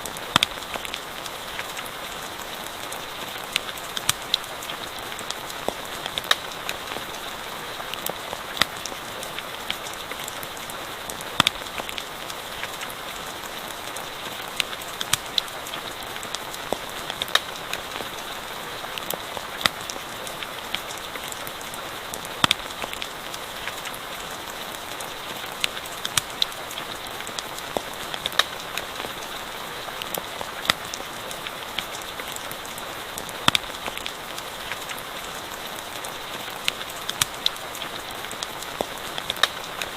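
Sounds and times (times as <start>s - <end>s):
campfire pops and crackles: 0.0s - 7.2s, 8.0s - 18.3s, 19.0s - 29.3s, 30.0s - 39.9s
rain hiss: 0.0s - 39.9s.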